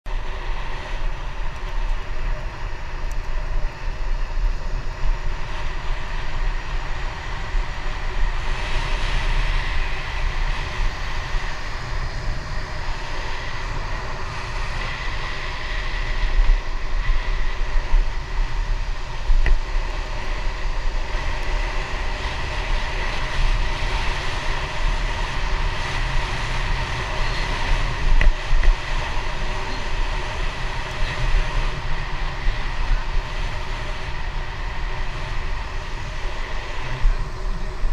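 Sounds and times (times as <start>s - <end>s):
bicycle tyre road noise: 0.1s - 37.9s
wind buffeting camera: 0.1s - 37.9s.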